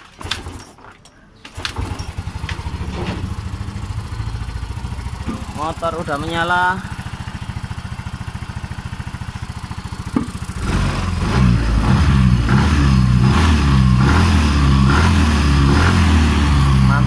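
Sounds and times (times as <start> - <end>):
scooter engine idling and revving: 1.5 - 17.0.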